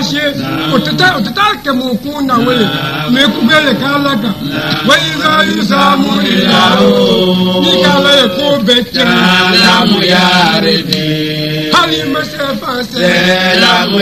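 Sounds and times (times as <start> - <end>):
voices chanting: 0.0 - 14.0.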